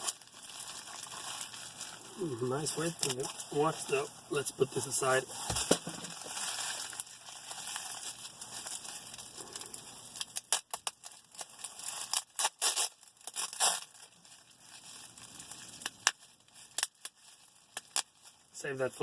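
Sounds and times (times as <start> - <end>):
plastic packaging crinkling: 0.0 - 18.6.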